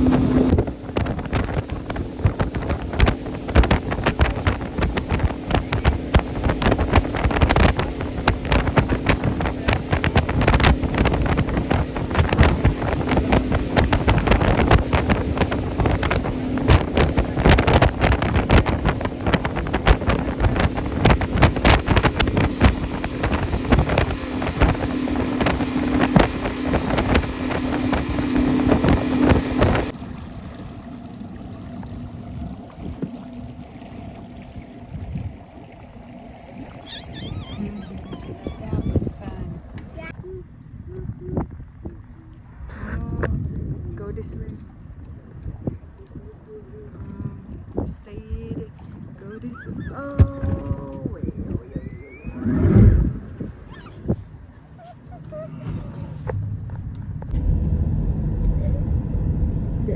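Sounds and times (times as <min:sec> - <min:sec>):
motorboat engine running: 0:00.0 - 0:59.9
wind buffeting microphone: 0:00.0 - 0:59.9.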